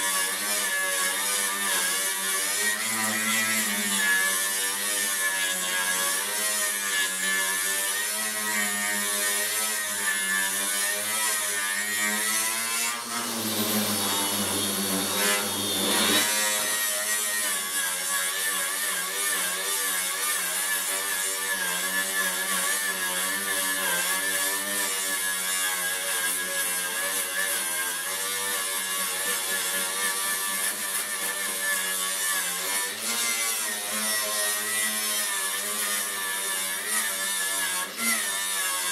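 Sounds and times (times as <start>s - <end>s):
angle grinder motor whine: 0.0s - 38.9s.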